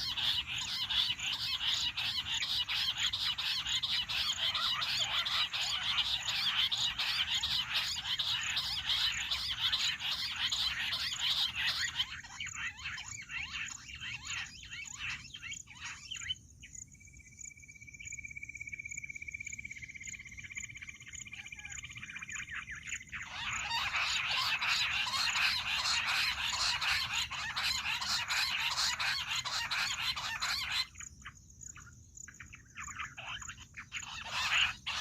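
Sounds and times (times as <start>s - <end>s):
quail chattering chorus: 0.0s - 16.5s, 20.1s - 35.0s
high bird trill: 0.0s - 17.3s, 17.9s - 35.0s.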